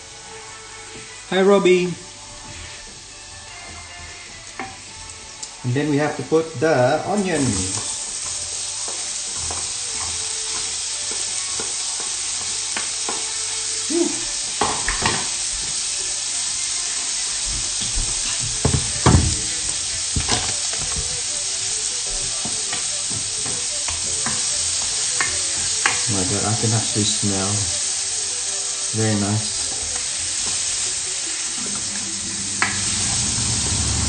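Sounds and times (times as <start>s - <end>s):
garlic sizzling in butter: 0.0s - 34.0s.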